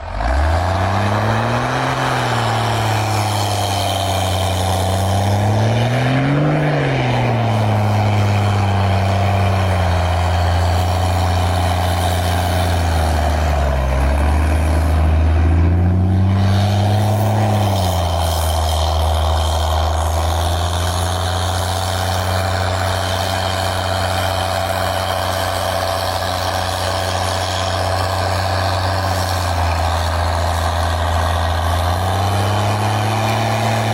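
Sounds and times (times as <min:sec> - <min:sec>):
pickup truck engine revving: 0:00.0 - 0:33.9.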